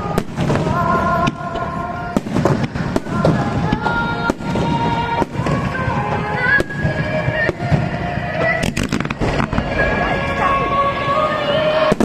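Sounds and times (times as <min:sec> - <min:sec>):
crackling firework bangs: 0:00.0 - 0:10.4, 0:11.7 - 0:12.0
fireworks bangs: 0:00.0 - 0:12.0
music: 0:00.0 - 0:12.0.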